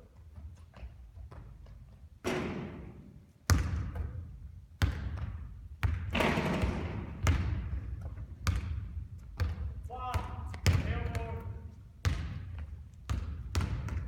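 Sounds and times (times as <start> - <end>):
basketball bouncing on gym floor: 0.2 - 14.0.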